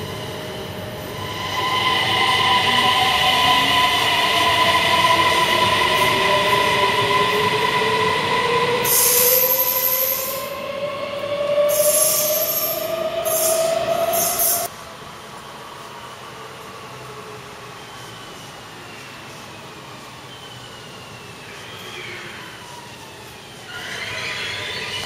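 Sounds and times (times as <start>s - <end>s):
electric train whine: 0.0s - 25.0s.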